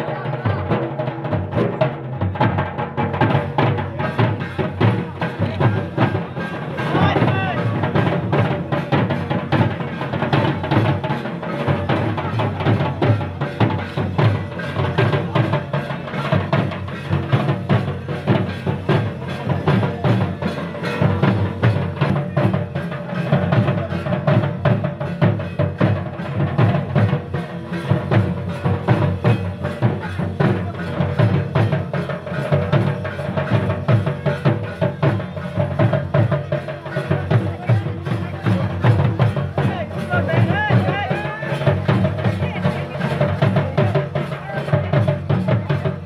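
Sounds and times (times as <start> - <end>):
barrel drums playing fast rhythm: 0.0 - 46.0.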